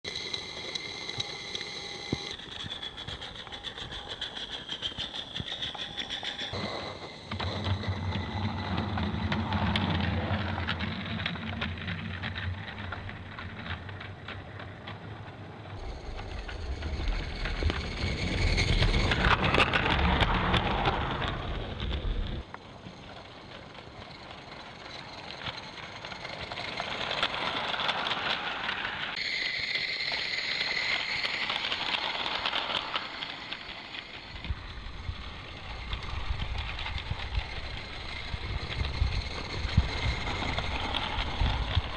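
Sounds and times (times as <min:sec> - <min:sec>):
model steam locomotive exhaust: 0:00.1 - 0:41.9
wheels clicking on track: 0:00.1 - 0:41.9.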